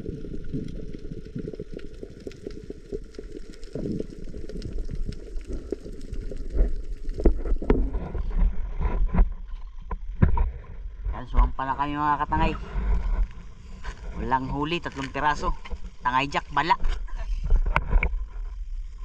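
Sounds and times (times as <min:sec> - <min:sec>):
muffled underwater crackling: 0:00.0 - 0:19.0.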